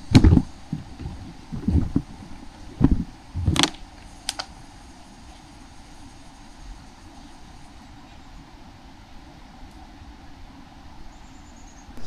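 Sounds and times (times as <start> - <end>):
faint low rumble: 0.0 - 12.0.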